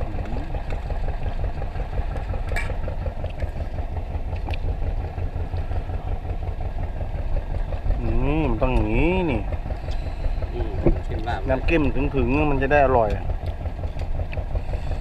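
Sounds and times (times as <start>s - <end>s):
boat engine throbbing: 0.0s - 15.0s.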